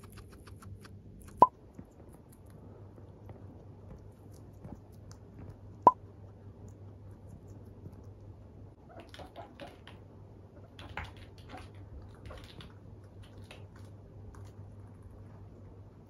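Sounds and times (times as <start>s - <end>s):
guinea pig clicks and taps: 0.0s - 10.1s, 10.7s - 15.3s
faint low hum: 0.0s - 16.0s.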